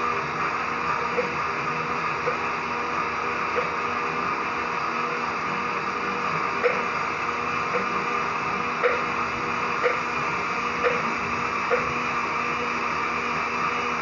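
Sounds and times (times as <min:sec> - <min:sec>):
pot boiling with hiss: 0:00.0 - 0:14.0.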